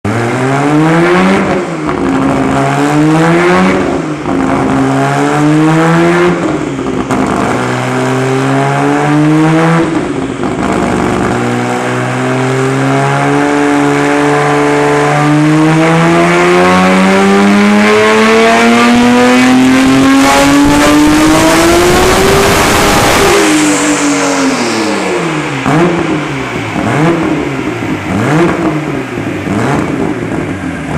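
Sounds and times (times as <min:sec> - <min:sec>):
car engine revving at full throttle: 0:00.0 - 0:30.9.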